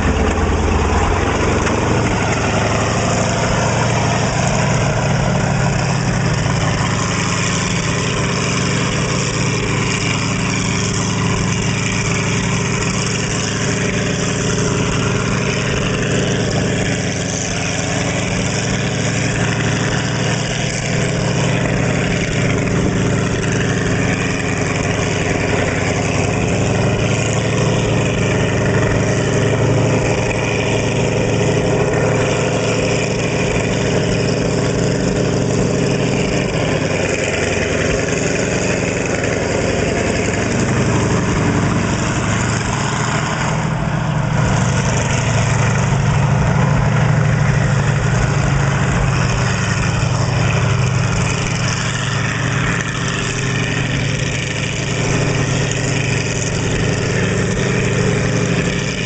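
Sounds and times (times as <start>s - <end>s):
tracked vehicle engine running: 0.0s - 59.0s.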